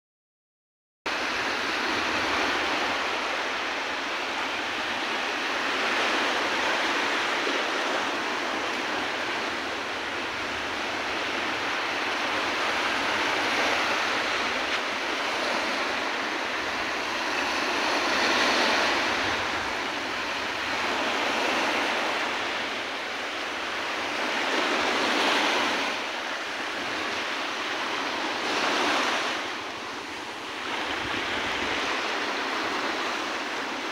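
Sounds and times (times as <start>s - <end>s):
waves washing up a sandy beach: 1.1s - 33.9s.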